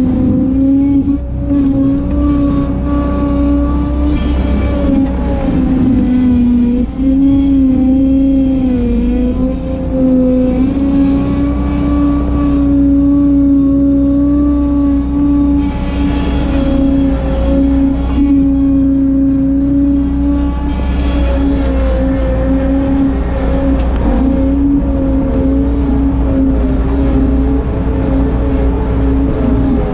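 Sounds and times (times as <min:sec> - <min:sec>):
skid steer running under load: 0:00.0 - 0:29.9.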